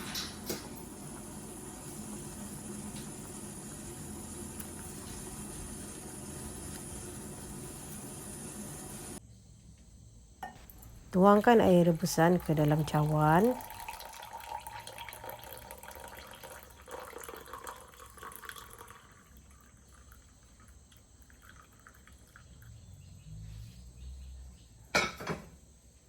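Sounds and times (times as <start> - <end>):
water pouring into a cup: 0.4 - 9.2, 10.7 - 22.8.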